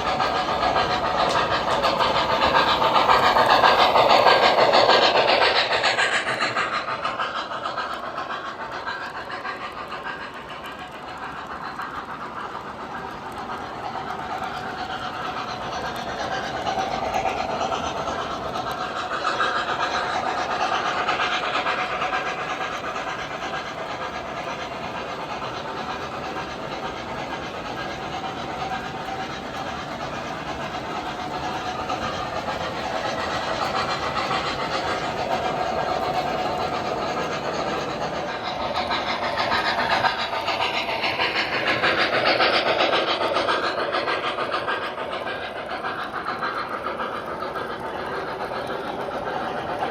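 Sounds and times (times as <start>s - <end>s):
model locomotive steam sounds: 0.0s - 49.9s
model train wheels clicking: 0.0s - 49.9s.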